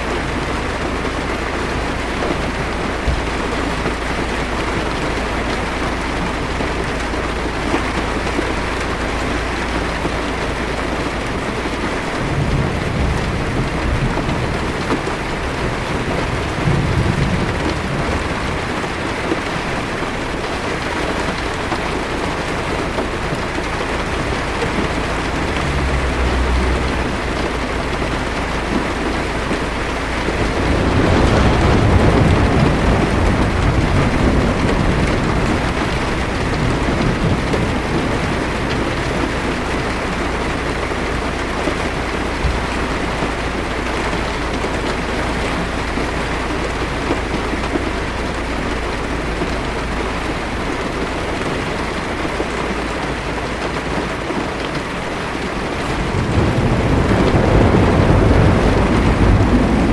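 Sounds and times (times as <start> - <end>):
low thunder rumbling: 0.0 - 52.8, 54.2 - 59.9
heavy rain on car windshield: 0.0 - 59.9.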